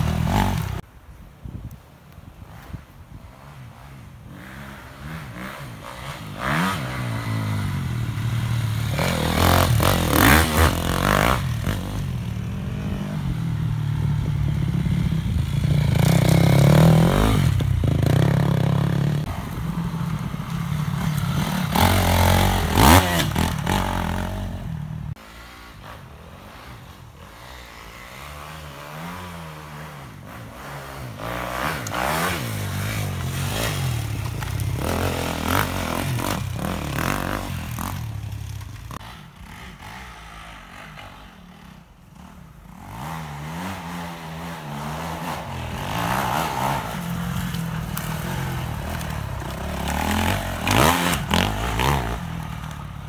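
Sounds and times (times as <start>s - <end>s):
dirt bike engines revving: 0.0s - 0.8s, 2.4s - 53.0s.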